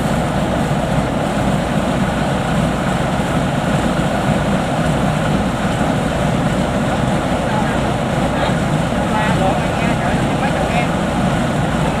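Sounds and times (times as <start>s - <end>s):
diesel engine running at high revs: 0.0s - 12.0s.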